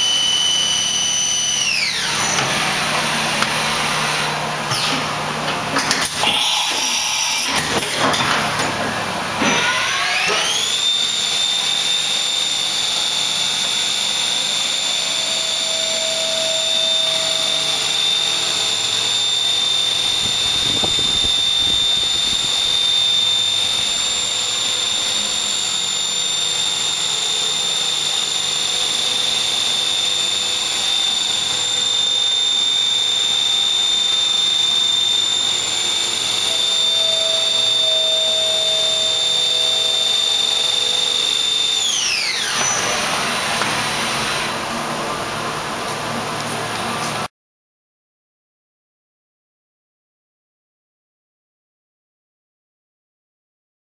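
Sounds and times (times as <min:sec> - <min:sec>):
machine spindle whine: 0:00.0 - 0:47.3.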